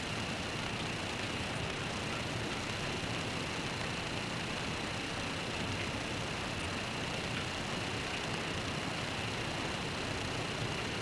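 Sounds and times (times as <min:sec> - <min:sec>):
rain: 0:00.0 - 0:11.0.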